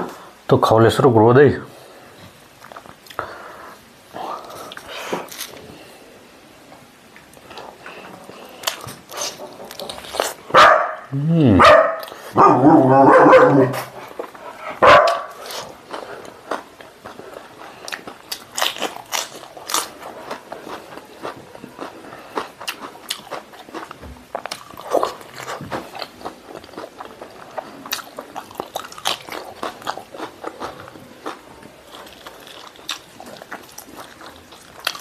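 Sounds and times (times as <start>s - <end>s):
man chewing: 1.9s - 10.8s, 11.7s - 35.0s.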